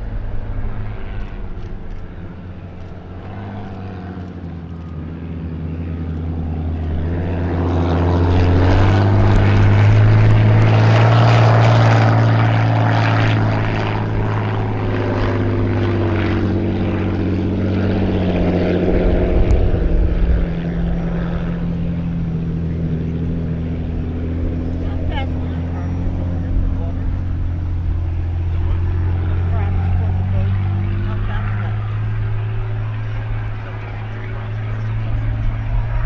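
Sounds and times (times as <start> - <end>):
piston aircraft engine roaring: 0.0 - 36.0.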